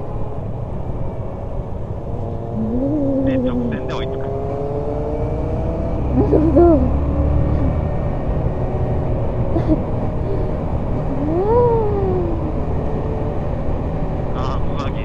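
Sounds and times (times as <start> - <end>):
motorcycle engine accelerating: 2.0 - 14.9.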